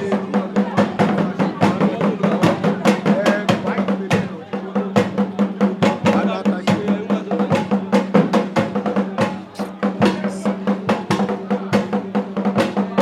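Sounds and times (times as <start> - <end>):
fast drumming: 0.0 - 13.0.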